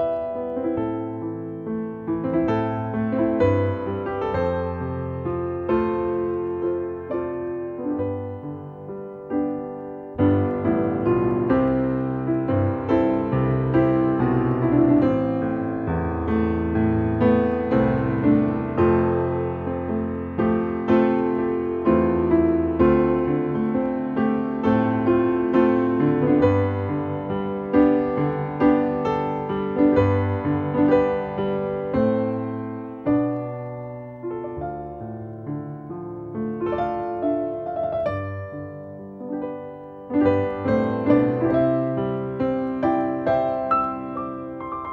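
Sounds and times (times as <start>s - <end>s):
piano music: 0.0s - 44.9s.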